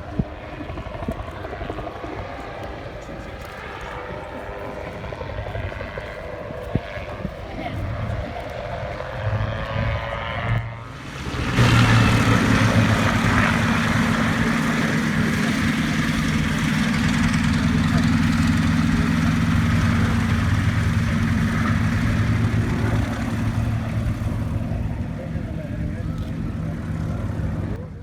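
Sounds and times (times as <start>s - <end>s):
propeller aircraft engine: 0.0s - 28.0s.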